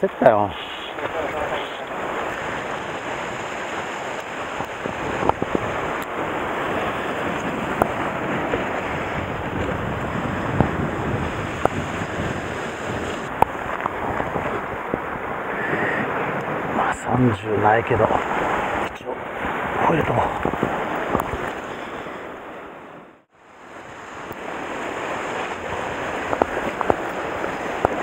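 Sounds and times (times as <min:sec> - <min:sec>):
surf washing against rocks: 0:00.0 - 0:28.0
wind buffeting microphone: 0:00.0 - 0:28.0.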